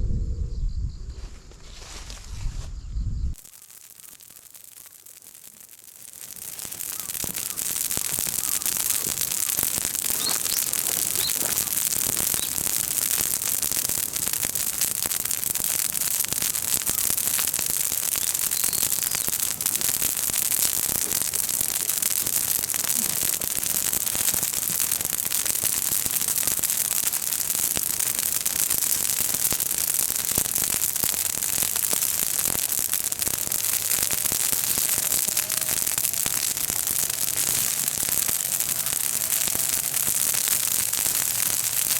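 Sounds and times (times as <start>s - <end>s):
bonfire crackling: 3.3s - 41.9s.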